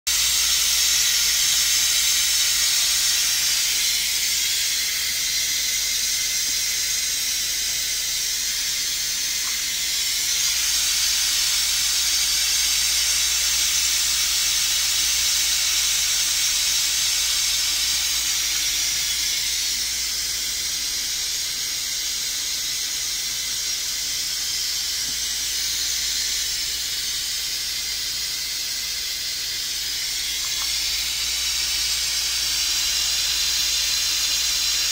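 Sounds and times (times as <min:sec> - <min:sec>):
pressure cooker steam hissing: 0:00.1 - 0:34.9.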